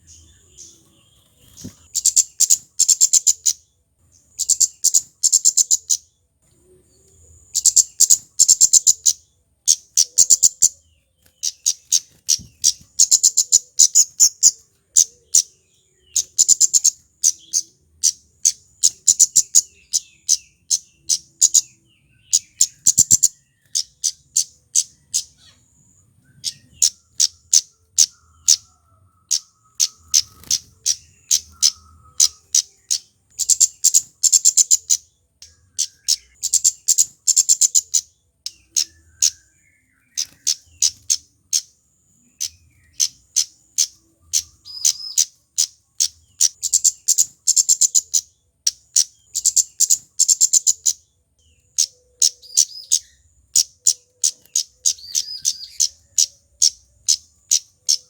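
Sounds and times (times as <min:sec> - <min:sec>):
bird chirping sharp chips: 0:00.0 - 0:06.2, 0:07.0 - 0:58.0.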